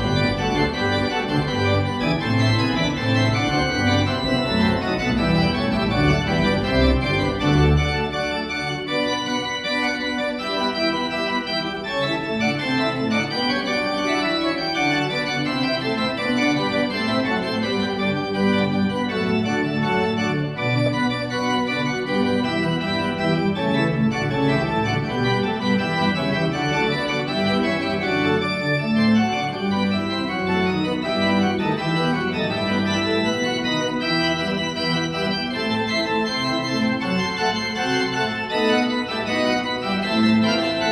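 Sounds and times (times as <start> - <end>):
pipe organ music: 0.0 - 40.9.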